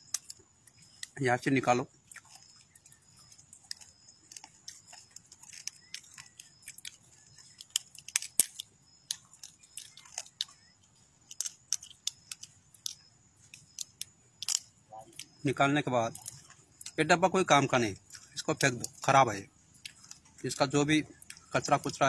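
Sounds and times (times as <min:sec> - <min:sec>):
crab shell crackling: 0:00.0 - 0:22.0.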